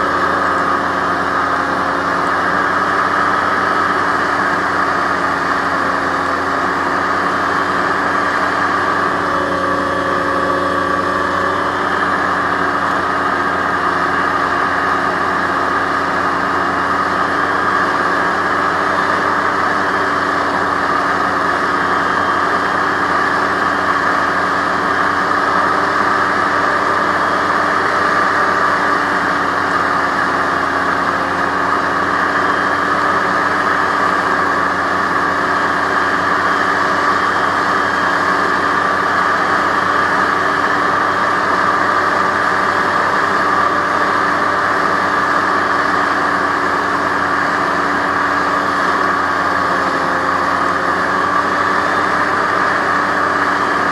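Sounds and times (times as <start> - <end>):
hovercraft engine and fans: 0.0 - 53.9.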